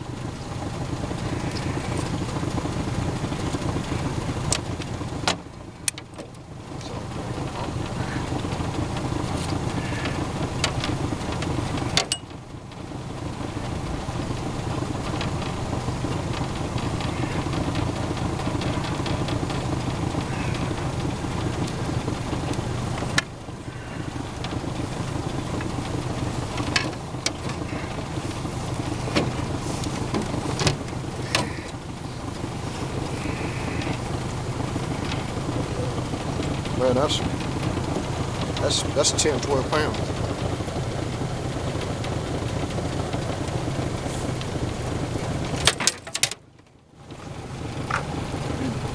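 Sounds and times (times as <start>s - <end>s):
outboard motor idling: 0.0s - 48.9s.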